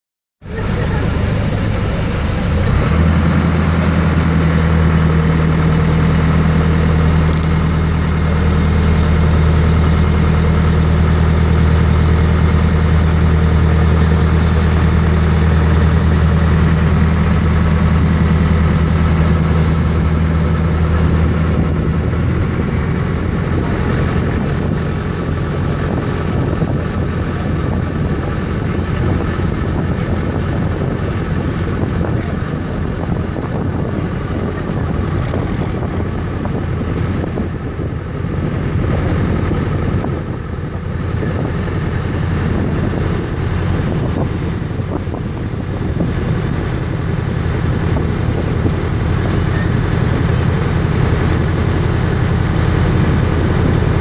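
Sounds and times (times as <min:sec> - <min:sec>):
boat engine humming: 0:00.4 - 0:54.0
water noise: 0:00.4 - 0:54.0
wind: 0:00.4 - 0:54.0.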